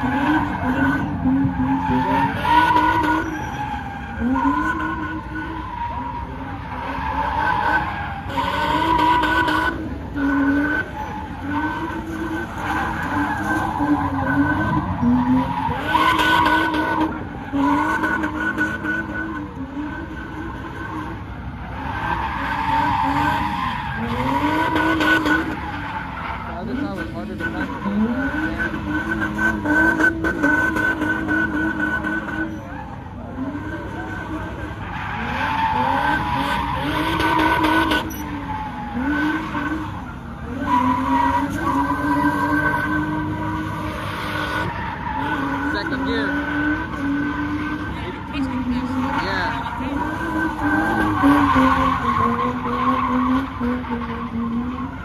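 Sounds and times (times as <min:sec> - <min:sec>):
car engine revving: 0:00.0 - 0:55.0
tyre screech: 0:00.0 - 0:55.0.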